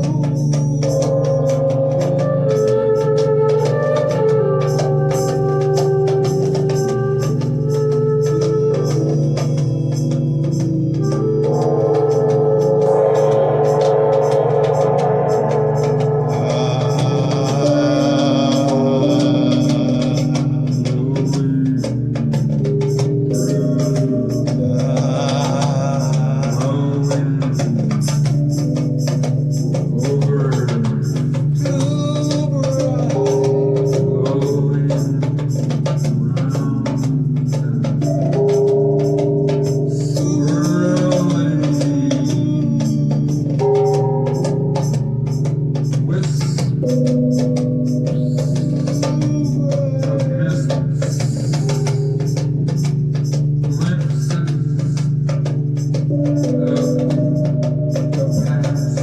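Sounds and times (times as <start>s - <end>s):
fast dense percussion: 0.0s - 59.0s
hand drum strokes: 0.0s - 59.0s
low drone: 0.0s - 59.0s
sustained notes: 0.0s - 59.0s.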